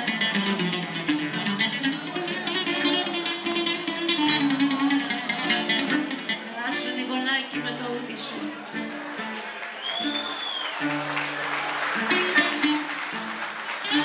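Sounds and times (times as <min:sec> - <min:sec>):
plucked lute melody: 0:00.0 - 0:09.4, 0:12.0 - 0:14.0.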